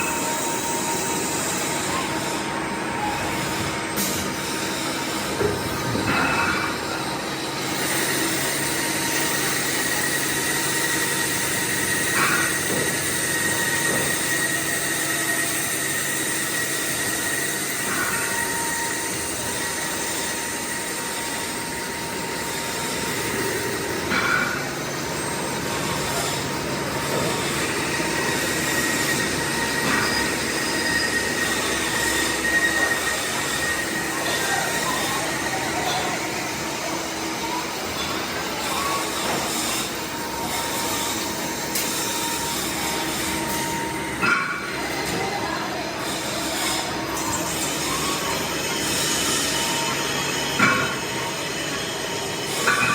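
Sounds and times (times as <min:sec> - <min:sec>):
workshop machinery running: 0:00.0 - 0:52.9.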